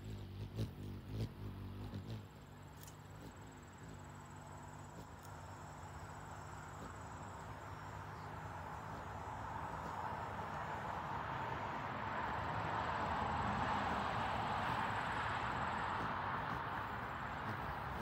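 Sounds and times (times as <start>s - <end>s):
hummingbird wings humming: 0.0s - 18.0s
passing traffic rushing: 0.0s - 18.0s.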